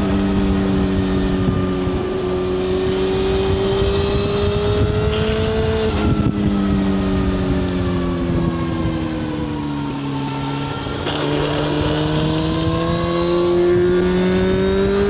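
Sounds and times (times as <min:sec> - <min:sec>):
motorcycle engine revving: 0:00.0 - 0:07.6, 0:10.1 - 0:15.0.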